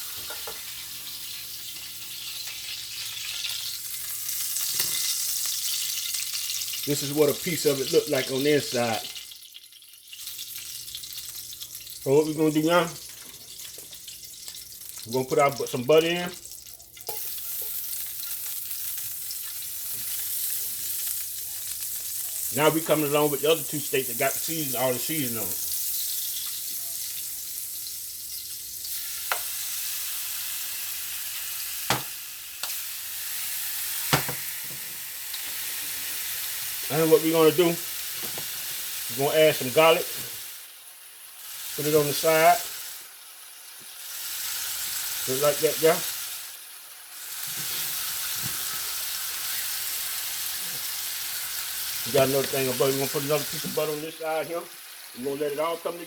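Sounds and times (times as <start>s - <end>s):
steaks sizzling in a pan: 0.0s - 56.0s.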